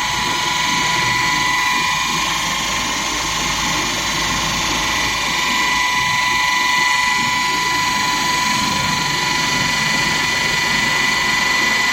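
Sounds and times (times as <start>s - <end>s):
disc grinder whining: 0.0s - 11.8s.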